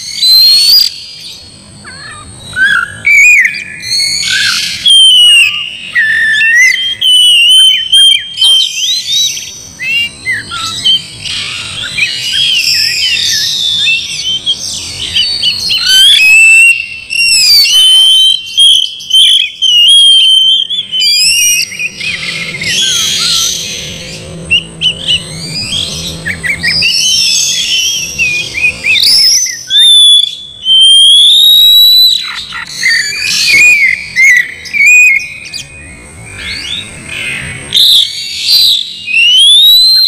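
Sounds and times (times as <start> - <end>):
bird singing whistles: 0.0 - 40.0.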